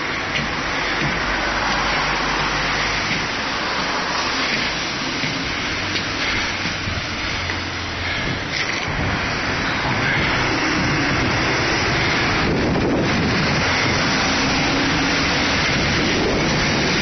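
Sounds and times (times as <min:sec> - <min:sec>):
low engine drone: 0:00.0 - 0:17.0
passing traffic rumble: 0:00.0 - 0:17.0.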